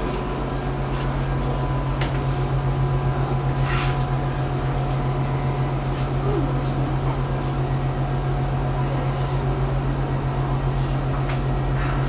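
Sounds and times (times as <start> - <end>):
train motor drone: 0.0 - 12.0.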